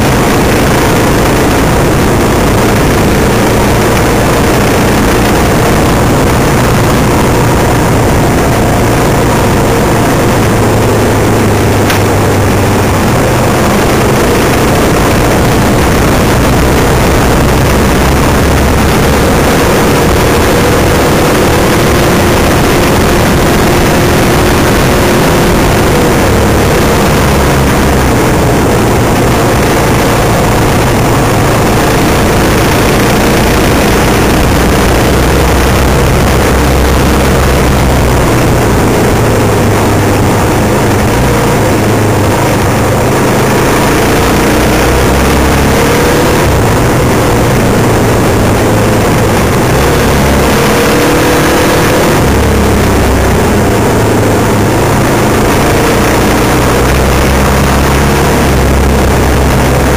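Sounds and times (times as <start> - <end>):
off-road vehicle engine running: 0.0 - 59.9
road noise on gravel: 0.0 - 59.9.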